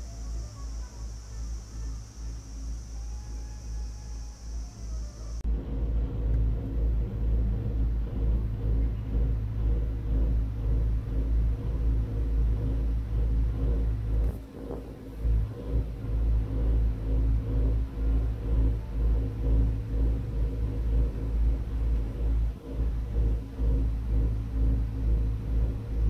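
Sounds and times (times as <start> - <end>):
faint steady hum: 0.0 - 26.0
gondola cabin rumble: 0.0 - 26.0.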